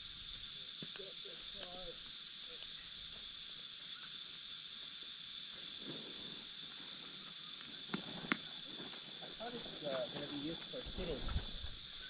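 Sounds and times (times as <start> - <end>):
cicada chorus drone: 0.0 - 12.0.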